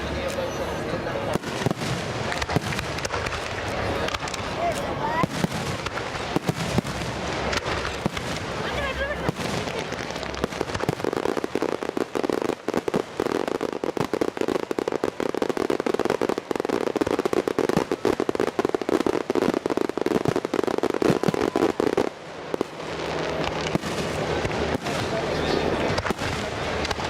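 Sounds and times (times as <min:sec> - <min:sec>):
fireworks popping and crackling: 0:00.0 - 0:27.0.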